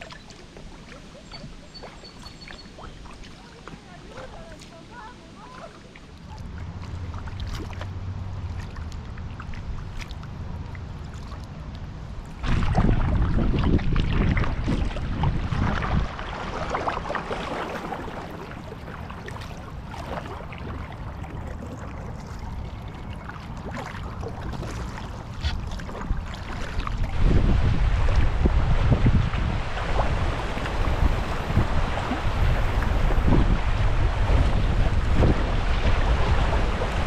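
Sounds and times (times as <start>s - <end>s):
paddle strokes splashing water: 0.0s - 37.0s
wind rumbling on microphone: 0.0s - 37.0s.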